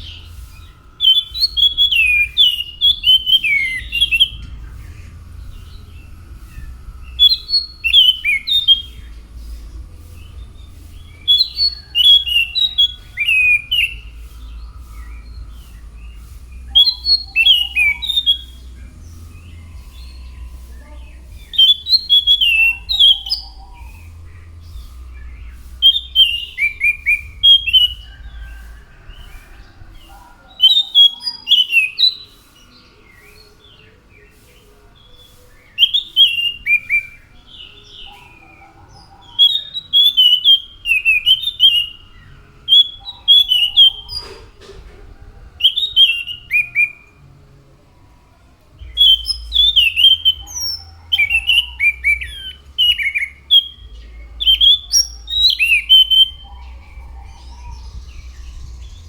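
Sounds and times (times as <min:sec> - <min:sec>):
faint low hum: 0:00.0 - 0:31.4, 0:36.6 - 0:59.0
thrush singing whistled notes: 0:00.0 - 0:47.3, 0:48.8 - 0:59.0.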